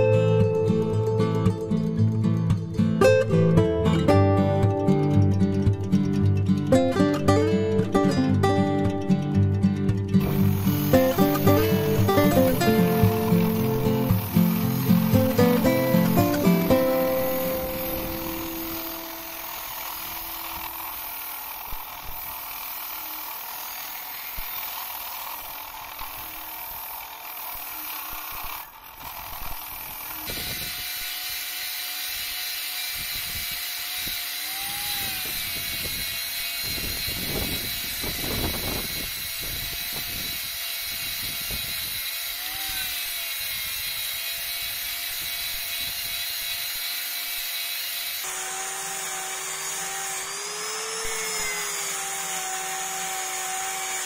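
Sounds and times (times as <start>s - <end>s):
wire wheel brushing rust off steel: 9.8s - 54.0s
angle grinder whining on steel: 10.1s - 54.0s.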